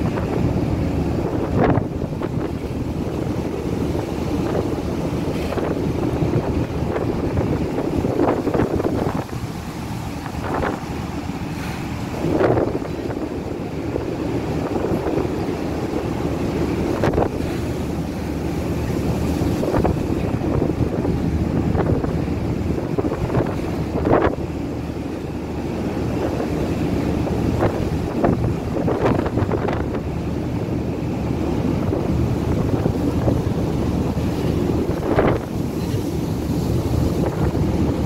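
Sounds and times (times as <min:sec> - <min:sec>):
rough sea: 0:00.0 - 0:38.0
wind buffeting microphone: 0:00.0 - 0:38.0.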